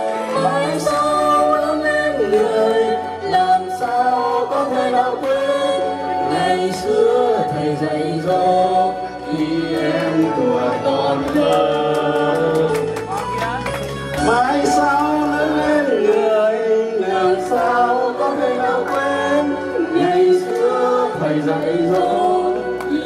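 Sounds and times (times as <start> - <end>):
man and woman singing duet: 0.0 - 12.9, 14.1 - 23.0
karaoke backing track: 0.0 - 23.0.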